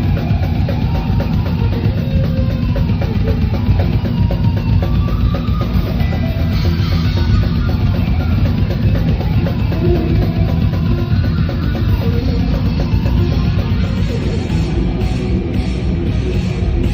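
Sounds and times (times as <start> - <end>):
thrash metal band playing live: 0.0 - 16.9.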